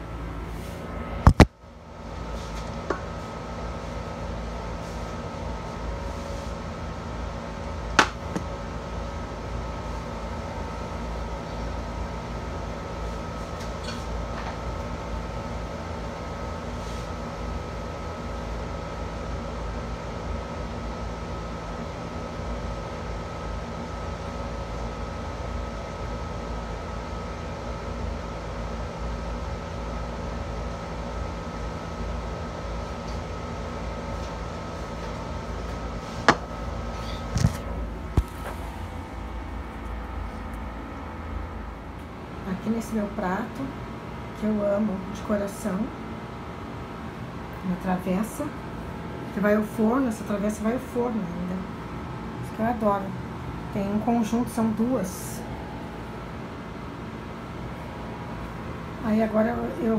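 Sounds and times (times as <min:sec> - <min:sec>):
fan motor humming: 0:00.0 - 0:59.9.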